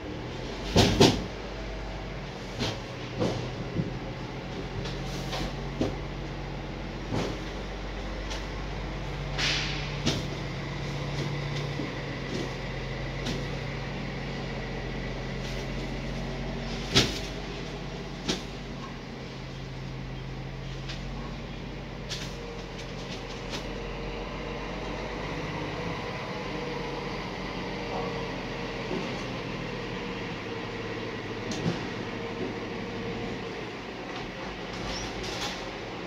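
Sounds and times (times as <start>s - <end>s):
heavy truck engine running: 0.0s - 36.0s.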